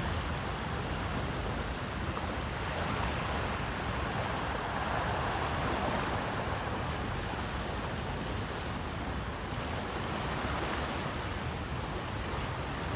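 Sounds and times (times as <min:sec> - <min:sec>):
steady rushing noise: 0:00.0 - 0:12.9.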